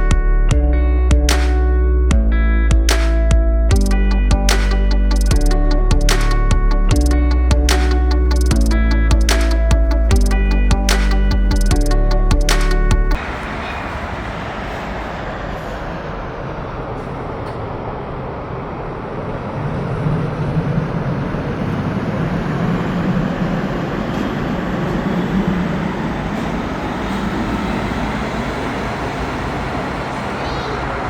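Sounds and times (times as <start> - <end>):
tram running hum: 3.8 - 31.0.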